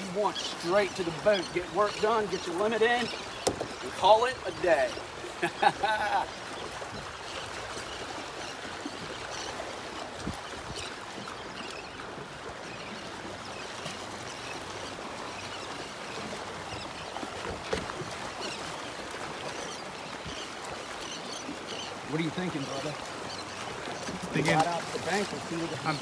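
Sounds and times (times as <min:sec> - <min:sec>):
waves lapping against boat hull: 0:00.0 - 0:26.0.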